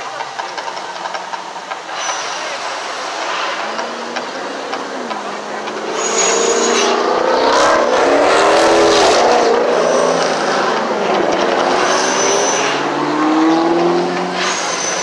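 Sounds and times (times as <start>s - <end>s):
loud continuous rumbling: 0.0s - 15.0s
gas flame jets hissing: 0.1s - 15.0s.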